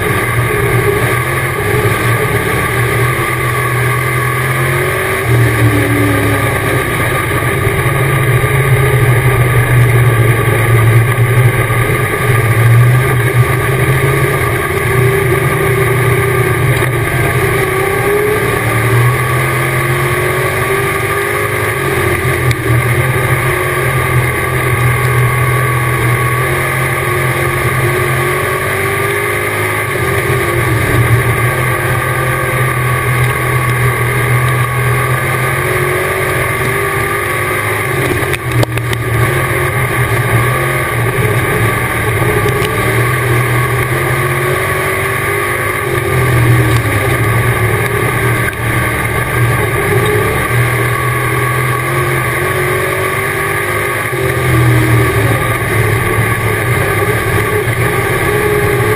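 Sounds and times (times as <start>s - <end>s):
race car engine running hard: 0.0s - 58.9s.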